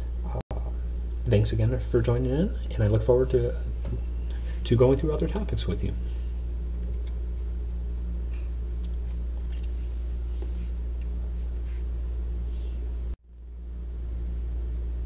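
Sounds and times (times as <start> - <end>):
low background hum and hiss: 0.0 - 15.0.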